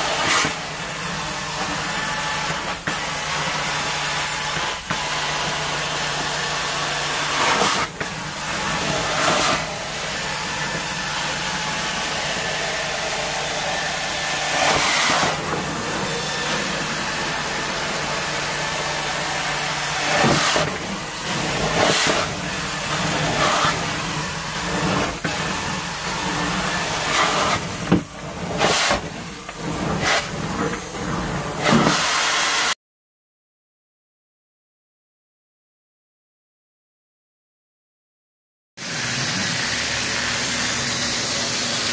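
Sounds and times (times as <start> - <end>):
carpet extraction vacuum hiss: 0.0 - 32.7, 38.8 - 41.9.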